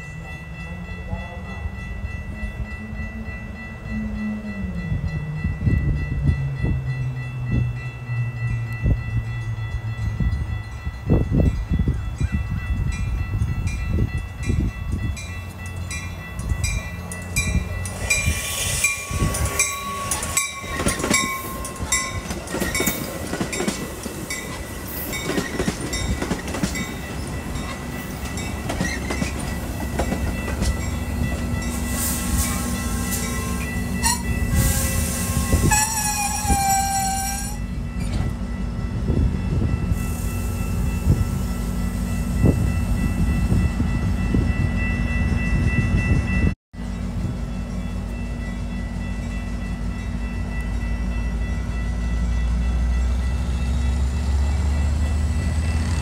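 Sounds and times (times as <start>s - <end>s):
train coaches rumbling over rails: 0.0s - 56.0s.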